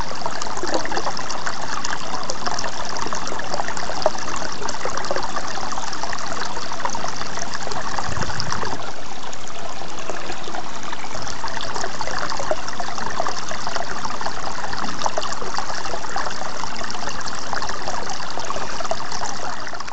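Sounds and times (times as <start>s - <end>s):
water trickling into a pond: 0.0s - 19.9s.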